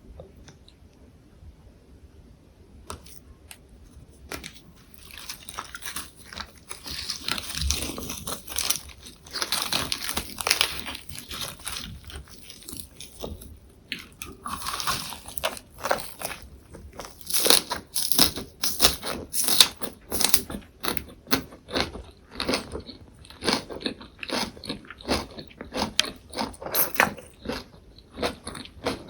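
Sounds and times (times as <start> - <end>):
person chewing crunchy food: 2.9 - 29.0.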